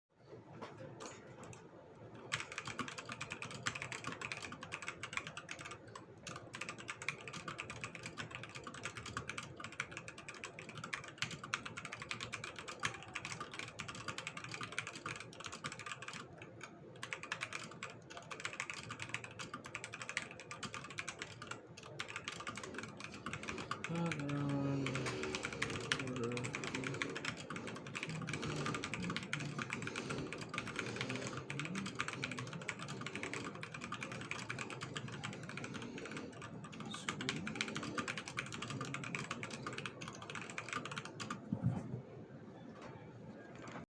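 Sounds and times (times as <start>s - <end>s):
fast keyboard typing: 2.2s - 41.4s, 43.5s - 43.8s.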